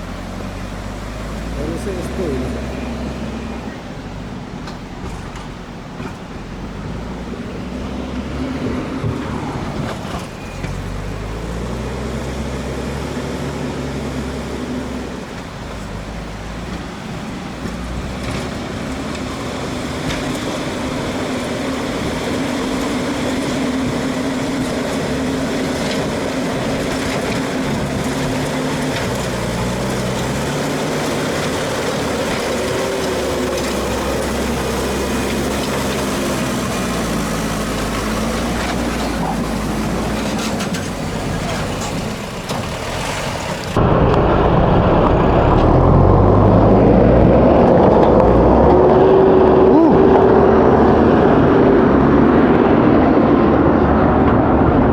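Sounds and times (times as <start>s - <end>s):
heavy engine under load: 0.0s - 54.9s.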